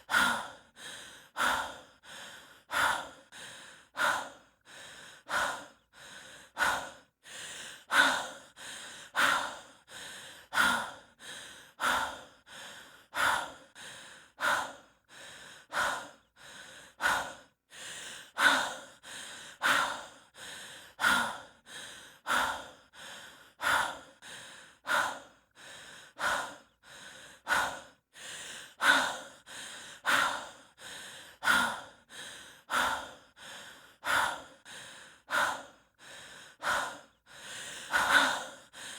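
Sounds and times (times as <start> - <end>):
person breathing heavily and fast: 0.0 - 38.9.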